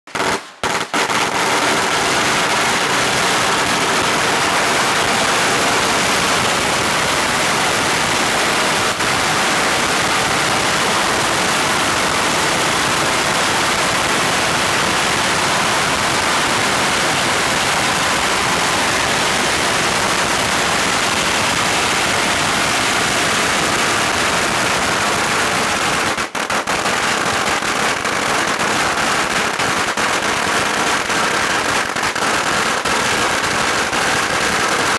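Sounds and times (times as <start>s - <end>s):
firecrackers crackling: 0.0s - 34.9s.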